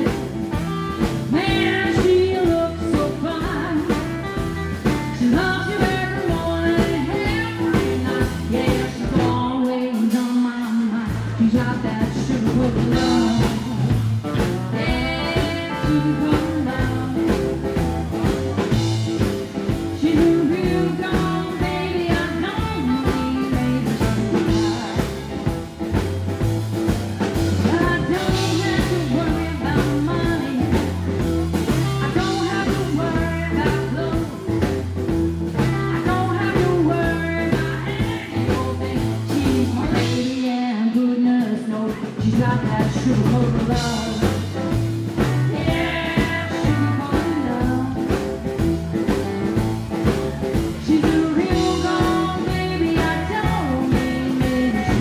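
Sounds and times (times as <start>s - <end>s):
upright double bass: 0.0s - 9.5s, 11.1s - 40.2s, 42.2s - 55.0s
woman singing: 0.0s - 17.8s, 19.6s - 25.6s, 27.3s - 49.6s, 50.6s - 55.0s
drums: 0.0s - 55.0s
guitars: 0.0s - 55.0s.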